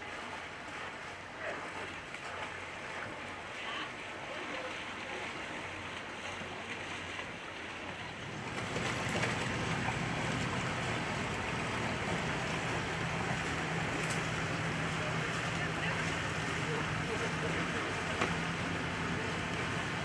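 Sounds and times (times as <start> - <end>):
boat engine humming: 0.0 - 20.0
water wash: 0.0 - 20.0.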